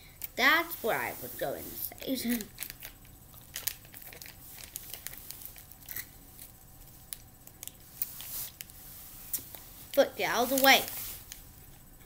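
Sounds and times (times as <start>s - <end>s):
plastic sleeve crinkling: 0.2s - 11.5s.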